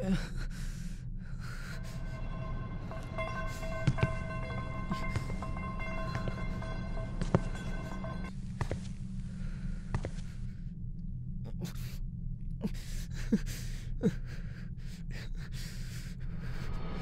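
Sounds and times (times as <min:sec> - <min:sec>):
low steady drone: 0:00.0 - 0:13.0, 0:13.6 - 0:17.0.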